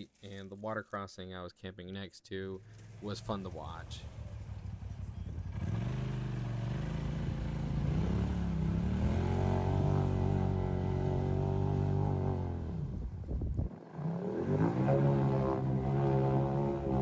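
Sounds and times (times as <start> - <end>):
vehicle engine under load: 2.6 - 17.0.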